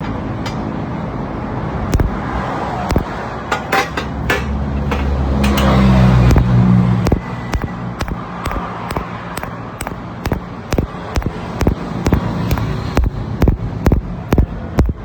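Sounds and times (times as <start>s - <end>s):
sharp metallic clicks and knocks: 0.0s - 0.8s, 1.9s - 2.2s, 2.8s - 15.0s.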